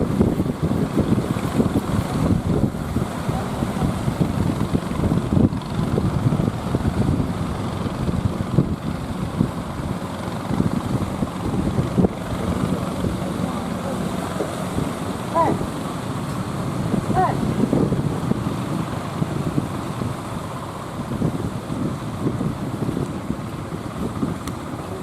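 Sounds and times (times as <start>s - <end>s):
motor boat engine running: 0.0s - 25.0s
wind buffeting microphone: 0.0s - 25.0s.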